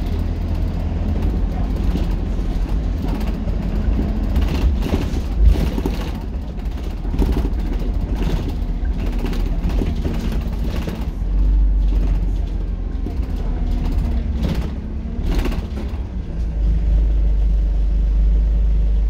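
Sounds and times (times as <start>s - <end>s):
interior rattles: 0.0s - 16.6s
bus engine rumbling: 0.0s - 19.0s.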